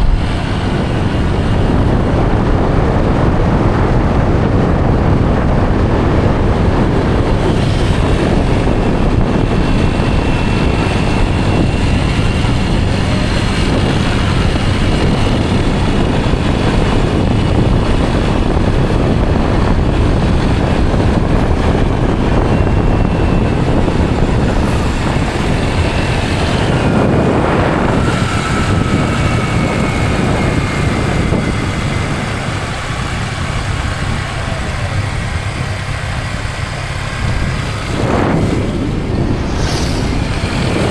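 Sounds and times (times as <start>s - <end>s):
vehicle engine and road noise: 0.0s - 40.9s
wind on microphone: 0.0s - 40.9s
faint whine: 6.2s - 40.9s.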